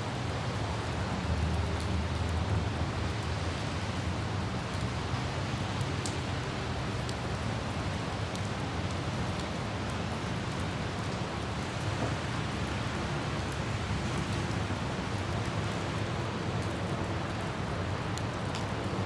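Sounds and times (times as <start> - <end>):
light rain: 0.0 - 19.0.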